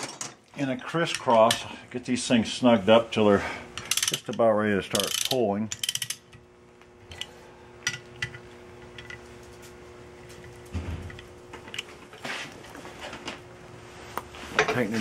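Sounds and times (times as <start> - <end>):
faint steady hum: 0.1 - 15.0.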